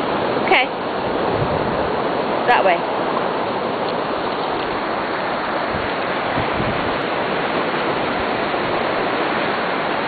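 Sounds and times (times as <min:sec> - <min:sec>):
surf washing on beach: 0:00.0 - 0:10.0.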